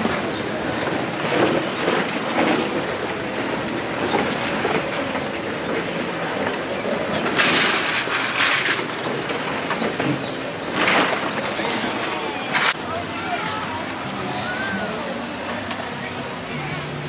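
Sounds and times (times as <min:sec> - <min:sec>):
cooler wheels rumbling over stone tiles: 0:00.0 - 0:17.0.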